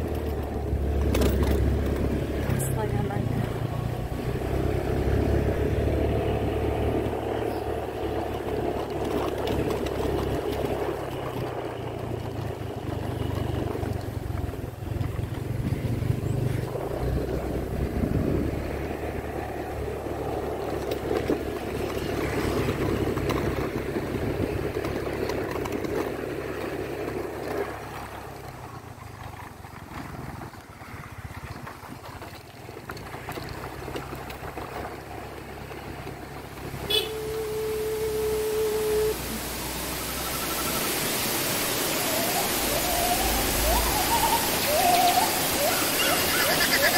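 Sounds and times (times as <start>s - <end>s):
motorbike engine running: 0.0s - 46.9s.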